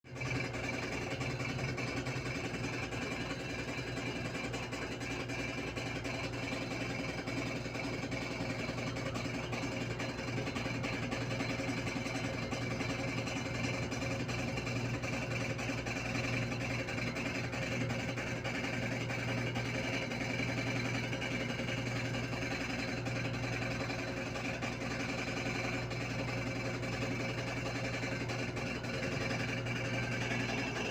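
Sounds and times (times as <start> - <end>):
washing machine humming and rattling: 0.0 - 30.9.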